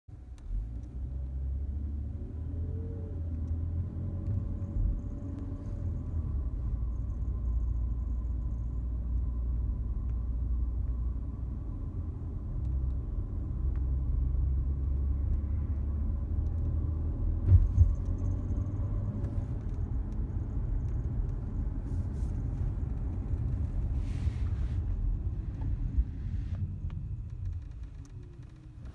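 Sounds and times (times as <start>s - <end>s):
car driving rumble: 0.1s - 28.9s.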